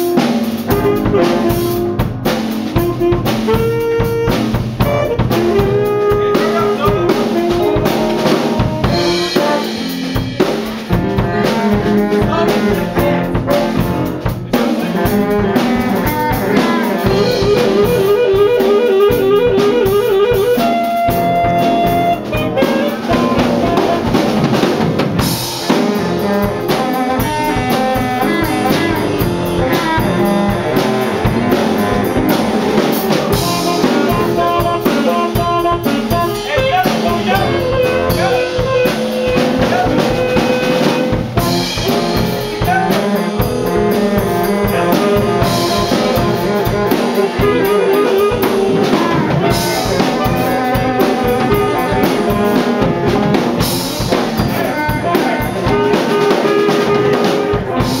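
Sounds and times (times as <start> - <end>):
drum kit: 0.0 - 58.0
funk horn section: 0.0 - 58.0.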